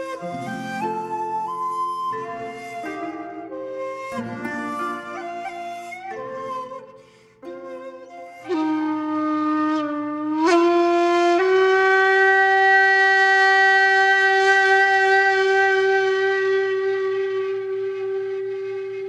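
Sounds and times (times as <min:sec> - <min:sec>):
solo wind instrument: 0:00.0 - 0:19.0.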